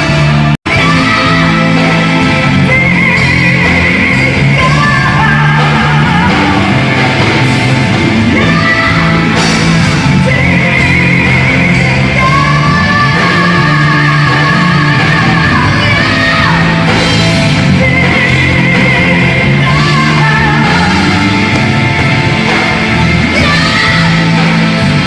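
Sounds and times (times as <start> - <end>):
distorted guitars: 0.0 - 25.0
rock song with male singer: 0.0 - 25.0.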